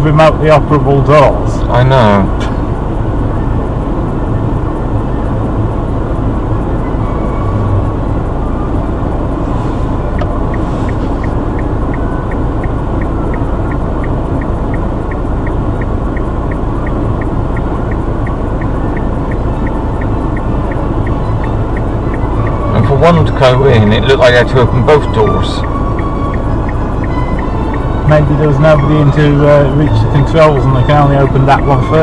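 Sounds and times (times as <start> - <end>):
car engine idling: 0.0 - 32.0
turn signal relay ticking: 0.0 - 32.0.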